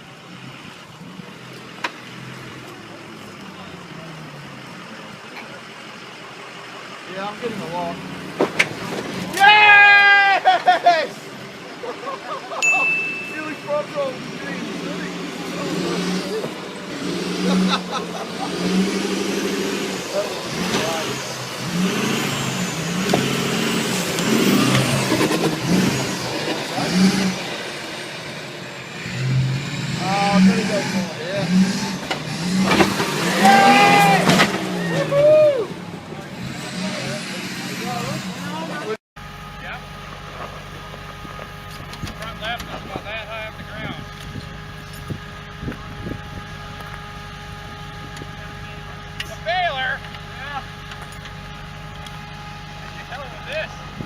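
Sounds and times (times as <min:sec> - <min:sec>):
vehicle engine running: 0:00.0 - 0:09.3, 0:10.7 - 0:54.0.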